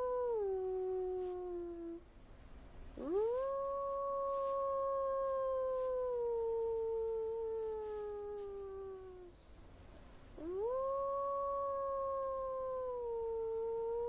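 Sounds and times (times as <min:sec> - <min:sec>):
long howl: 0:00.0 - 0:02.0, 0:03.0 - 0:09.4, 0:10.4 - 0:14.0.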